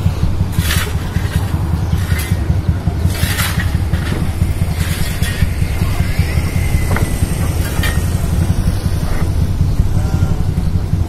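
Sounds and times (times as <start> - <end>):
motorcycles and cars passing: 0.0 - 11.0
wind rumble on microphone: 0.0 - 11.0.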